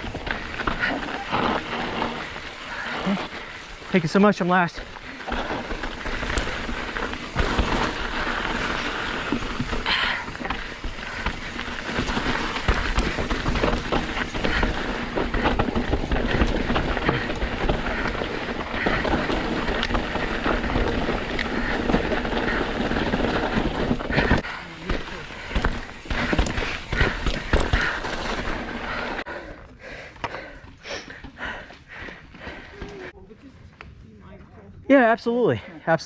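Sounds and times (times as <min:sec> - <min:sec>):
bike rattling and clattering: 0:00.0 - 0:29.3
tyres rolling on rock and gravel: 0:00.0 - 0:29.3.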